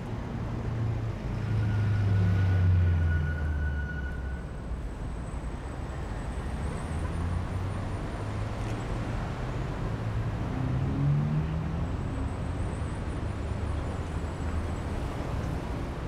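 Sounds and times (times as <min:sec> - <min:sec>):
cars passing on street: 0:00.0 - 0:16.0.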